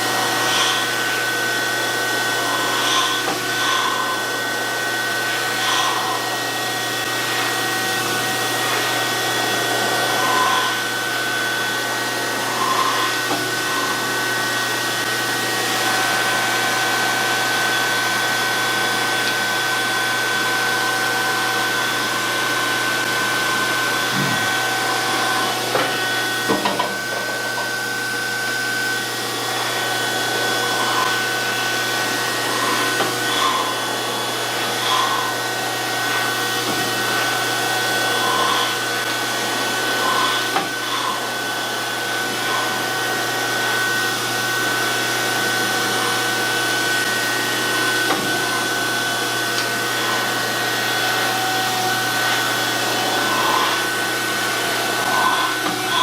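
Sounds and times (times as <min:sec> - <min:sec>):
surface grinder whirring: 0:00.0 - 0:56.0.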